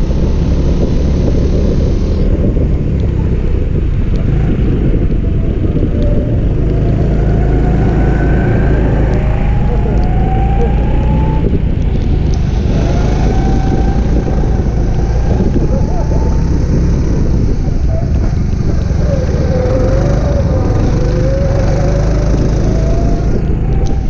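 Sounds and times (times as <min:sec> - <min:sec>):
go-kart engine running hard: 0:00.0 - 0:24.0
heavy low rumble: 0:00.0 - 0:24.0
steady rushing noise: 0:00.0 - 0:24.0.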